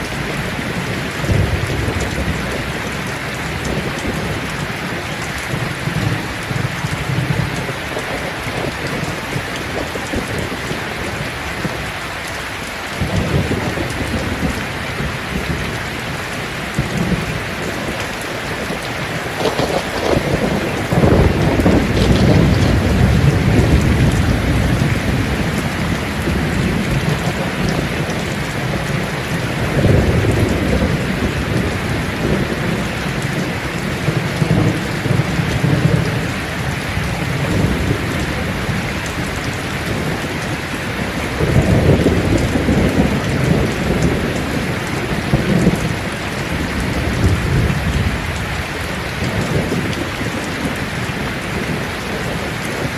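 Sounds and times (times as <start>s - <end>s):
distant thunder rumbling: 0.0s - 11.8s, 13.0s - 52.9s
heavy rain on leaves: 0.0s - 52.9s.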